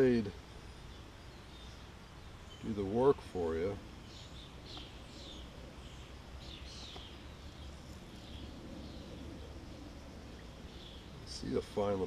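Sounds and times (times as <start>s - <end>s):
faint birds chirping: 0.0s - 12.0s
low outdoor background rumble: 0.0s - 12.0s.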